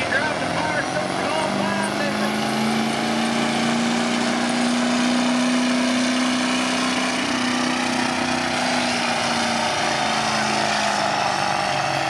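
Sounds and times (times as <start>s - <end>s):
truck engine running at high revs: 0.0s - 12.0s.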